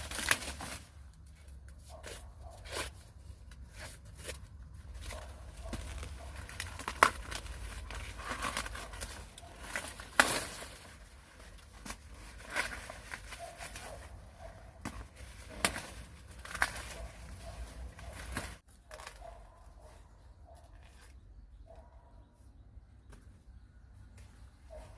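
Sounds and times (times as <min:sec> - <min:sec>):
rustling and crackling: 0:00.0 - 0:21.2.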